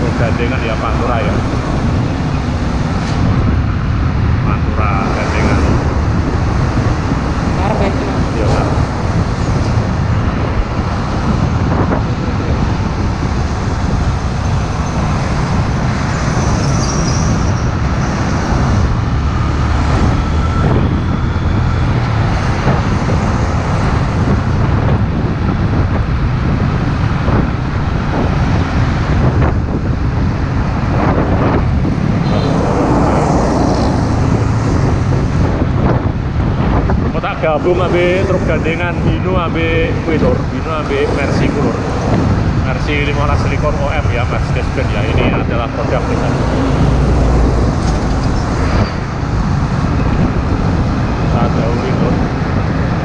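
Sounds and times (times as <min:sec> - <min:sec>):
engine and road rumble: 0:00.0 - 0:53.0.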